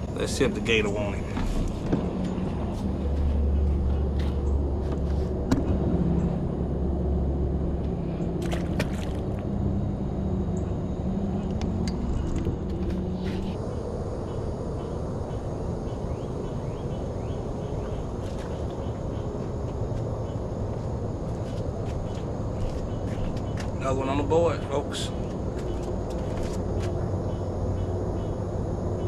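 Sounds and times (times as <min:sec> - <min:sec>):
low motor drone: 0:00.0 - 0:29.0
pitched hum: 0:00.0 - 0:29.0.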